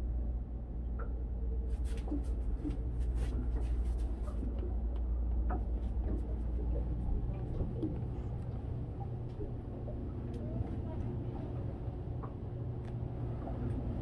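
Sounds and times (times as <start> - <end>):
low cabin hum: 0.0 - 14.0.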